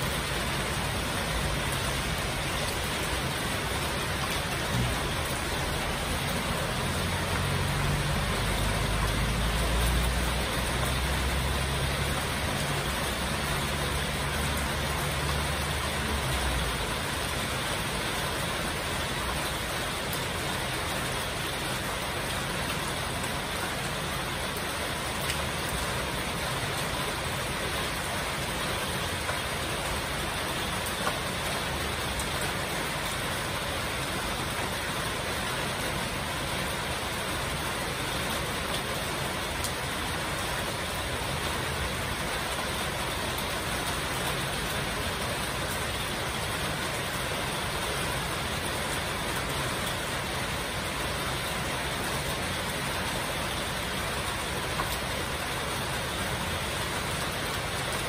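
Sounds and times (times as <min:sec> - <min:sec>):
heavy rain on metal roofs: 0:00.0 - 0:58.0.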